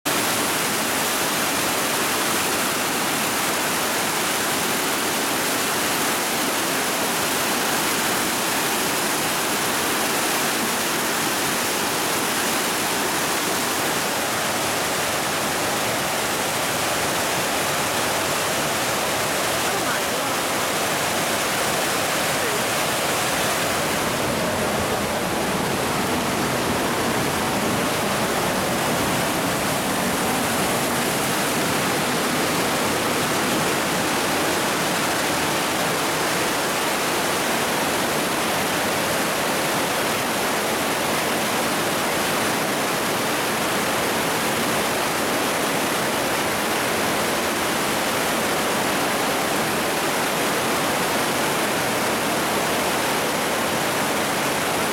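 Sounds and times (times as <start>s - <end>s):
waterfall pouring: 0.1s - 45.5s
rushing river water: 0.1s - 54.9s.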